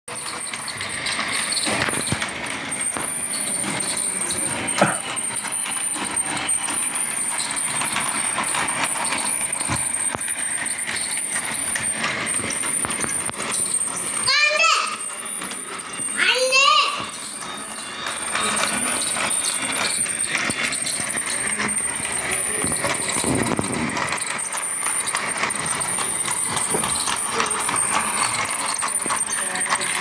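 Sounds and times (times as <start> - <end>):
toy train motor whine: 0.1 - 30.0
wheels rattling on plastic track: 0.1 - 30.0.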